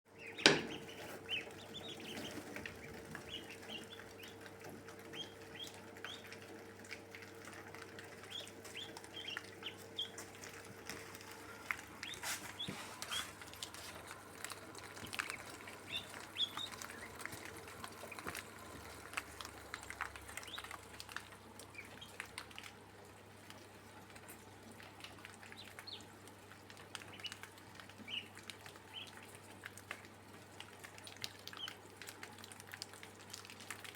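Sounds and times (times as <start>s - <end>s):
poultry chirping and peeping: 0.1s - 22.7s, 23.3s - 32.6s.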